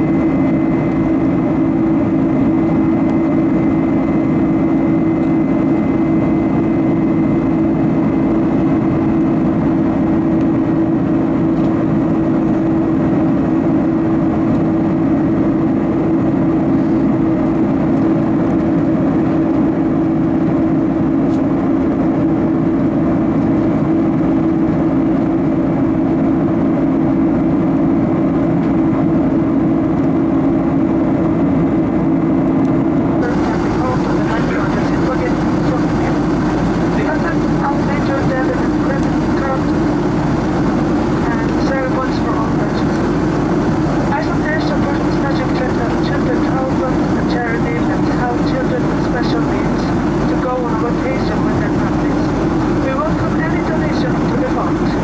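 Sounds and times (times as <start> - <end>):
airplane cabin engine drone: 0.0 - 55.0.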